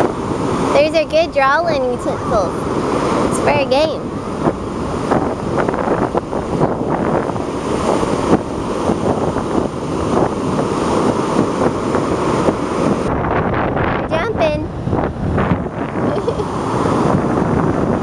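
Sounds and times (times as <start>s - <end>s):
ocean surf on a beach: 0.0s - 18.0s
wind buffeting microphone: 0.0s - 18.0s.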